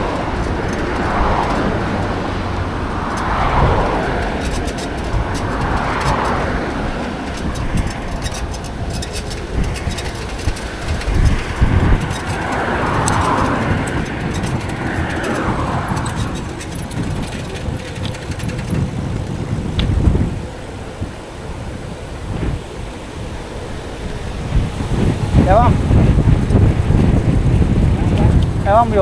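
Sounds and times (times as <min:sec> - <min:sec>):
bicycle tyres rolling: 0:00.0 - 0:29.0
wind buffeting microphone: 0:00.0 - 0:29.0.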